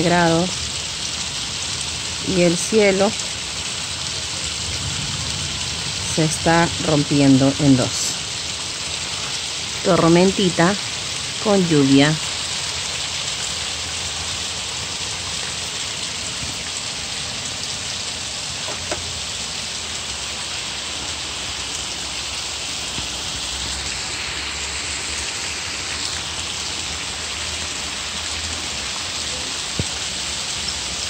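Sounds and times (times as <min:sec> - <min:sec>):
rain on tiled roofs: 0:00.0 - 0:31.0.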